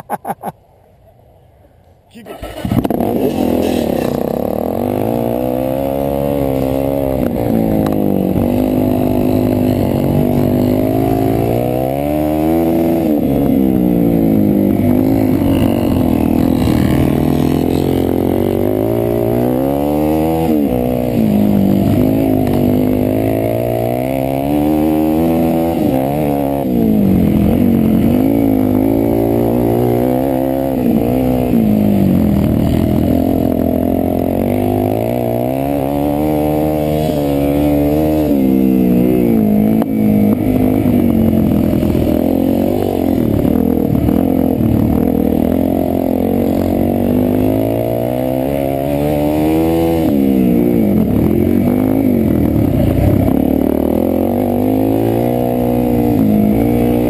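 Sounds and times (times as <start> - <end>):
motorcycle engine revving: 2.3 - 57.0.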